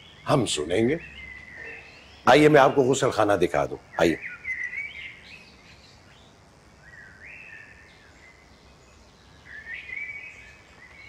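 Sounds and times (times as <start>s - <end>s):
bird song with gliding notes: 0.0s - 11.0s
faint steady background hiss: 0.0s - 11.0s.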